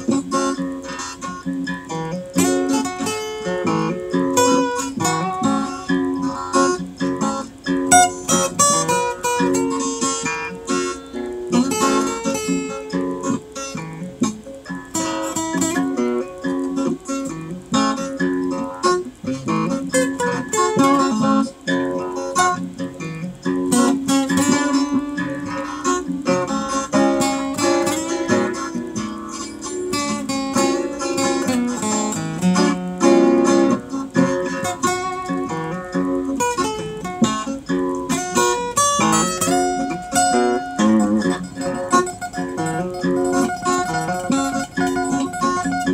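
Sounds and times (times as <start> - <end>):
acoustic guitar tune: 0.0 - 45.9.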